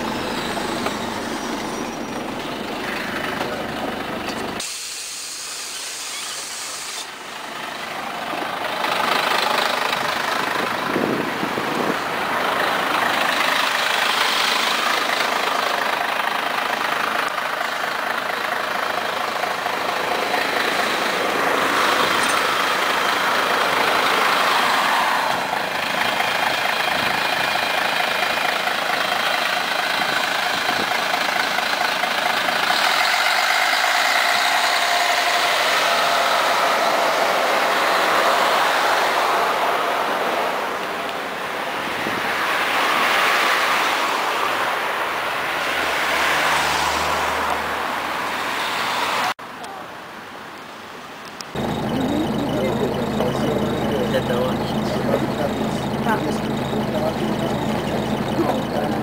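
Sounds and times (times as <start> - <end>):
bus diesel engine: 0.0 - 59.0
street traffic: 0.0 - 59.0.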